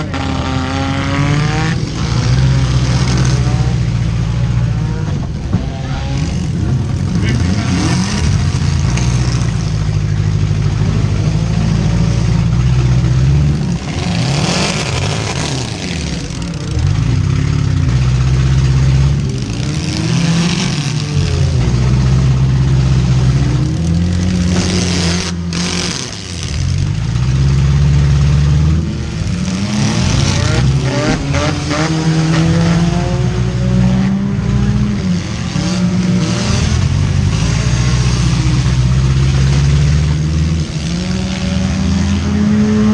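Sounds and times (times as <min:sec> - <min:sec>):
car engines revving hard: 0:00.0 - 0:42.9.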